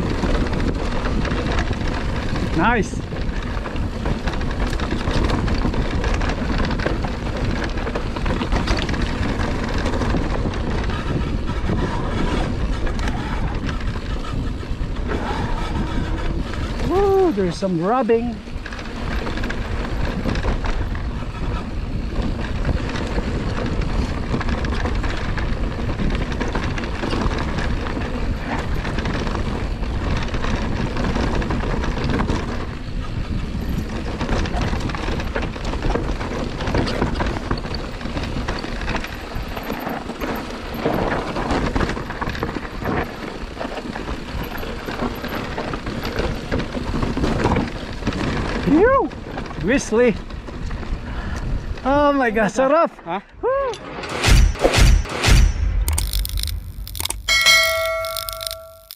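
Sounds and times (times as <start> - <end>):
wind rumble on microphone: 0.0 - 52.6
tyres grinding over dirt and rock: 0.0 - 52.7, 53.8 - 58.9
bike rattling over bumps: 0.0 - 53.1, 53.8 - 58.9.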